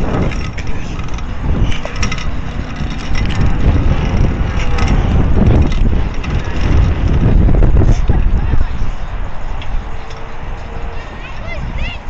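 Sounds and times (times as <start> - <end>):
scooter wheels rumbling on concrete: 0.0 - 12.0
wind on microphone: 0.0 - 12.0.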